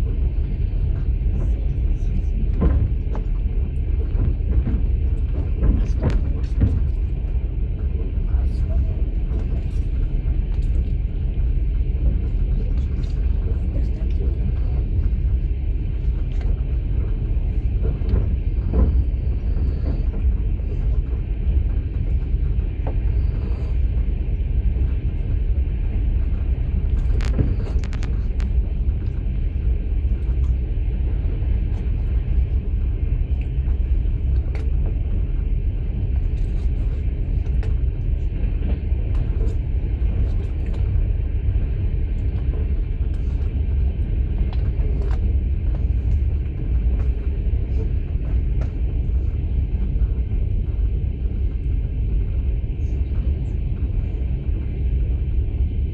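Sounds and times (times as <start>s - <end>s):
train running rumble: 0.0s - 55.9s.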